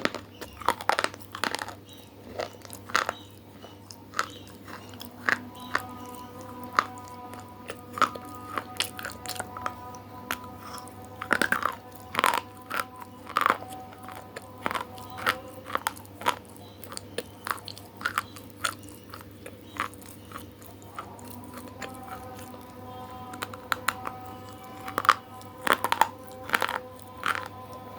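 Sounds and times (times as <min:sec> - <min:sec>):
chewing crunchy food: 0:00.0 - 0:27.9
faint steady hum: 0:00.0 - 0:27.9.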